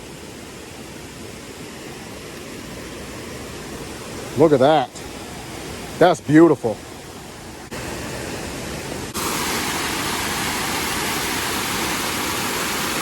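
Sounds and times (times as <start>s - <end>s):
brook water rushing over falls: 0.0s - 13.0s.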